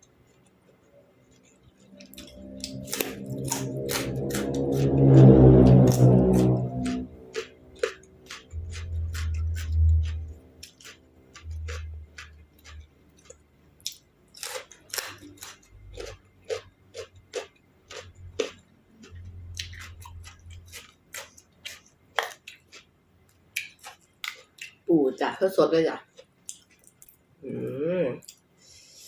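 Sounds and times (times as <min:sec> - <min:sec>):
person chewing crunchy food: 0:00.0 - 0:24.8, 0:26.1 - 0:27.3.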